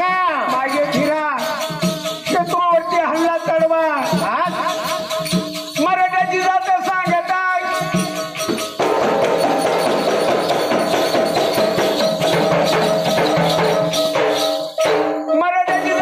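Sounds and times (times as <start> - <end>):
fast folk percussion: 0.0 - 16.0.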